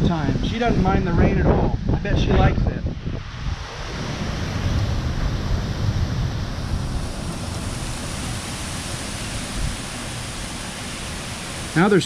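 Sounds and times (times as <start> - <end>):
heavy rain pouring: 0.0 - 12.0
wind buffeting microphone: 0.0 - 12.0.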